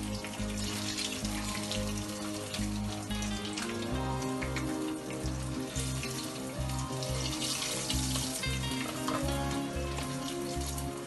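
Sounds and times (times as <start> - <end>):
background music with beat: 0.0 - 11.0
patties sizzling in hot oil: 0.0 - 11.0.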